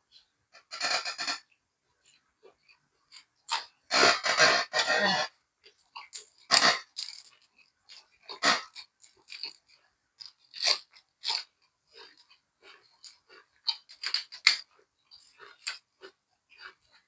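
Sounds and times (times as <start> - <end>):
food crunching: 0.6 - 4.9, 5.6 - 17.0
person chewing and lip smacking: 0.6 - 4.9, 5.6 - 17.0.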